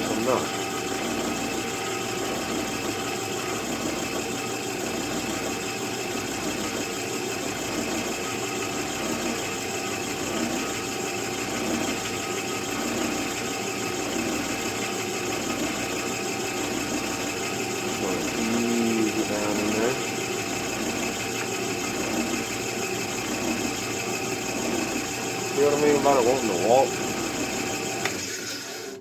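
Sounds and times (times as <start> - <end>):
electric drill motor drilling: 0.0 - 29.0.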